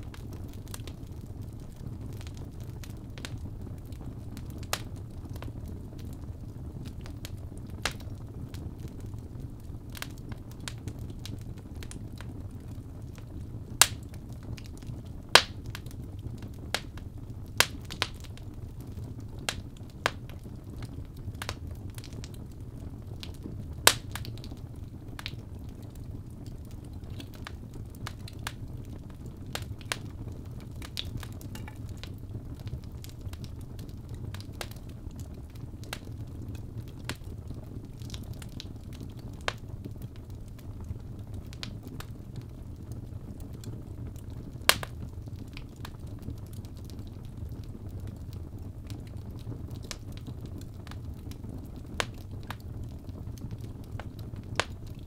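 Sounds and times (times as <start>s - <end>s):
burning logs popping: 0.0s - 55.0s
low rumble of flames: 0.0s - 55.0s.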